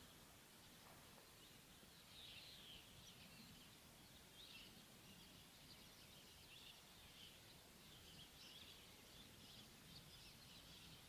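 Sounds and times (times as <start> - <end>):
distant small birds chirping: 0.0 - 11.0.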